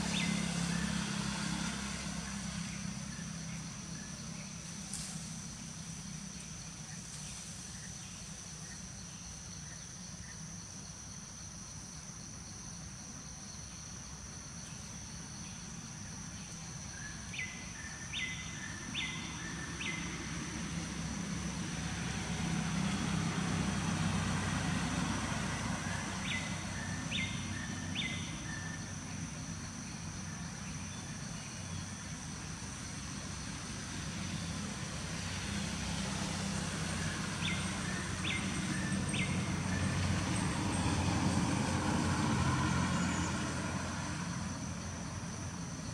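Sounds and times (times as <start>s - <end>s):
insect whine: 0.0s - 45.9s
low traffic rumble: 0.0s - 45.9s.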